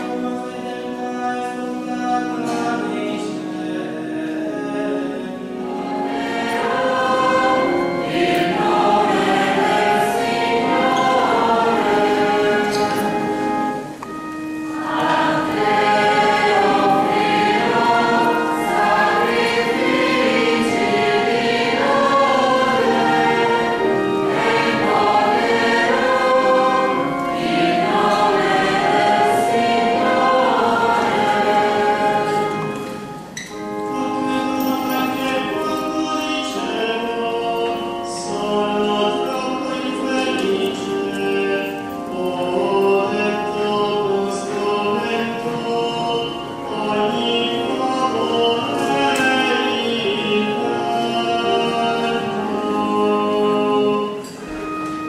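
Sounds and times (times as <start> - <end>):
mixed choir singing: 0.0 - 13.9, 14.6 - 33.3, 35.0 - 54.8.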